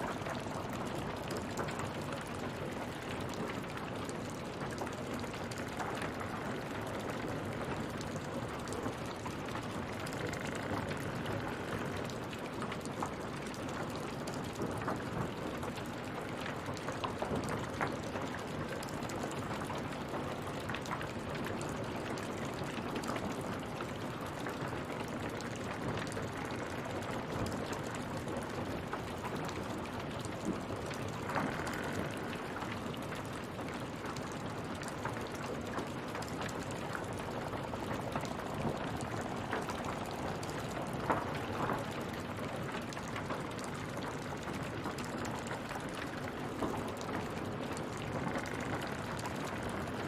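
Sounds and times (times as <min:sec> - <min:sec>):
water washing with small splashes: 0:00.0 - 0:50.0.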